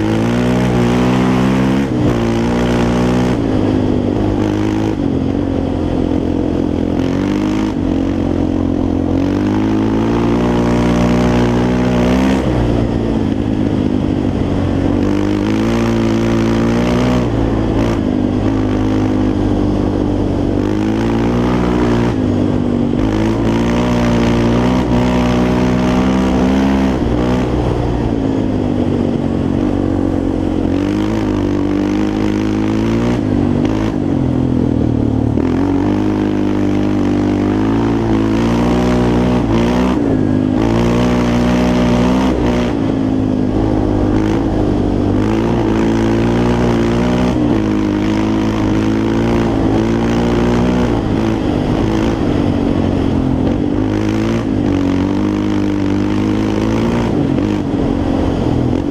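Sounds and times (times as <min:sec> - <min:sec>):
quad engine revving: 0:00.0 - 0:58.9.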